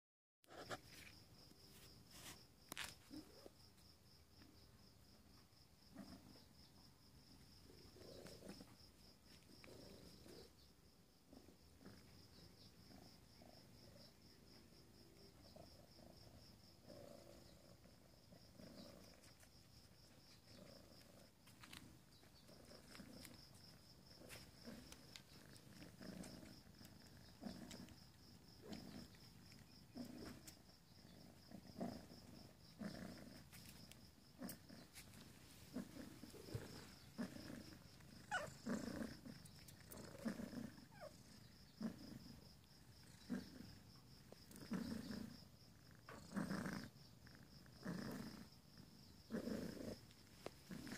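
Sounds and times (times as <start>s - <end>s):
cat purring: 3.1s - 50.9s.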